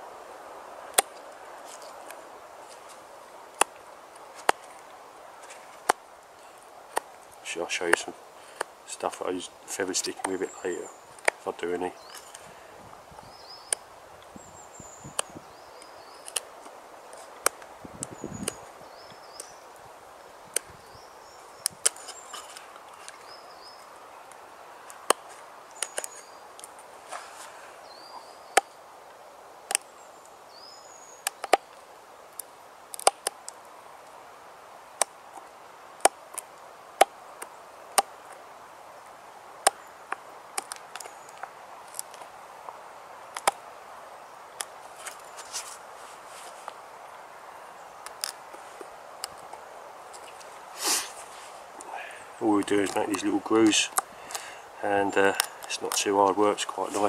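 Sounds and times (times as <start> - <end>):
faint bird chirping: 0.8 - 57.0.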